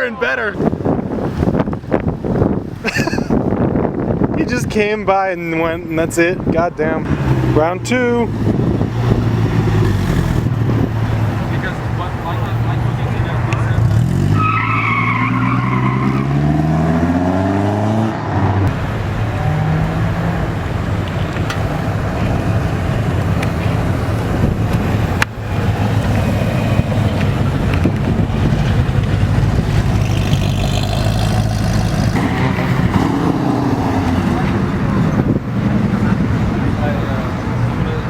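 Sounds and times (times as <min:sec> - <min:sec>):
car engine revving: 0:07.0 - 0:38.0.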